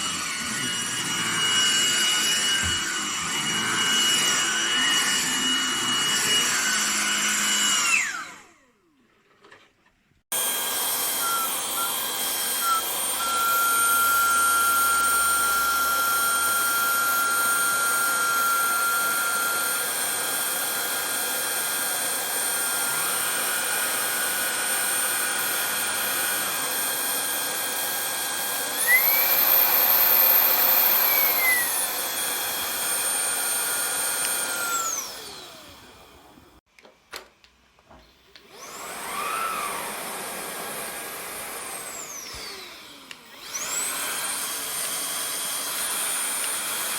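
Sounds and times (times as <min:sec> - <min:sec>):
vacuum cleaner motor whining: 0:00.0 - 0:09.6, 0:10.3 - 0:36.6, 0:38.0 - 0:46.9.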